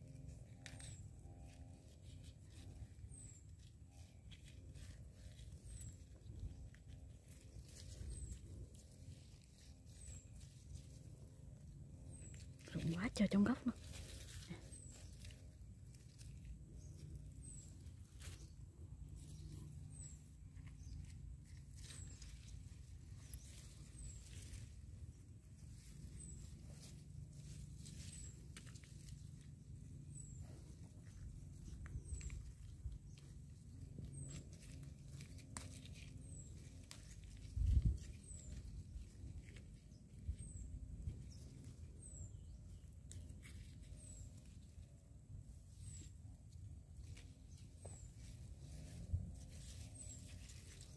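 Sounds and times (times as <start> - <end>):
leaves rustling: 0.0 - 50.9
low steady rumble: 0.0 - 50.9.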